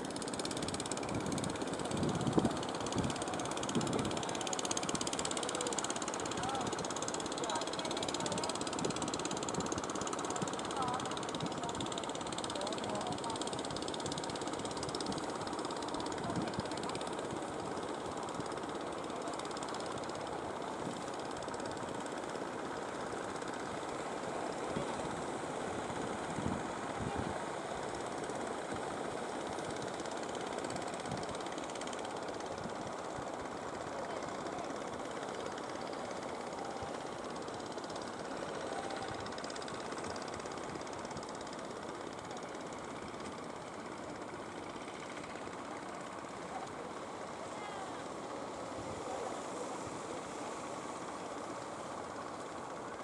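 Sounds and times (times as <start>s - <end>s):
boat engines running: 0.0s - 53.0s.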